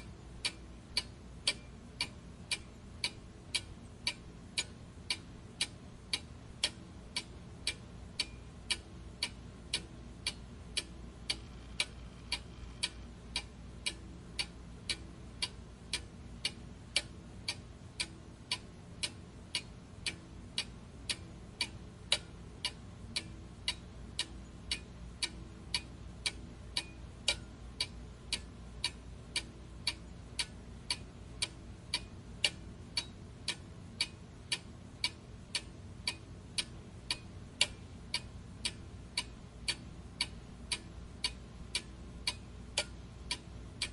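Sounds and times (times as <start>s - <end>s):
clock ticking: 0.0s - 43.9s
faint low hum: 0.0s - 43.9s.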